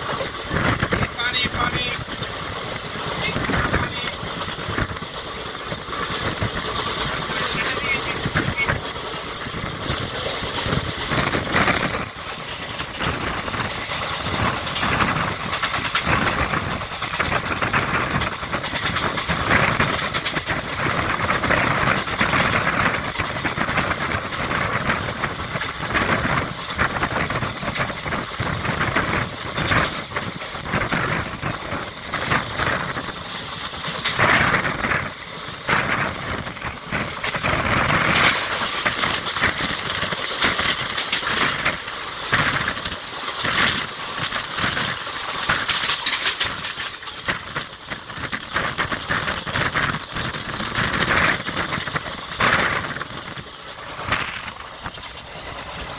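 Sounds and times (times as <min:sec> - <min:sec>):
train rattling and clatter: 0:00.0 - 0:55.9
train wheels rumbling on rails: 0:00.0 - 0:55.9.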